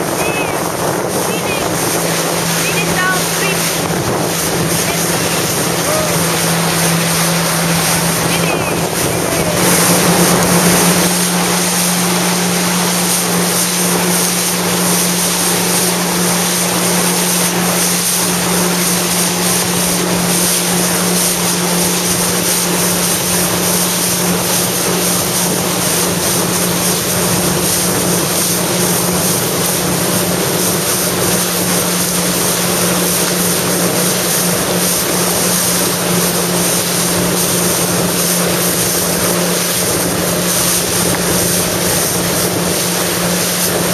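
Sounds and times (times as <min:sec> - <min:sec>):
jet ski engine running: 0:00.0 - 0:43.9
rushing water: 0:00.0 - 0:43.9
wind: 0:00.0 - 0:43.9.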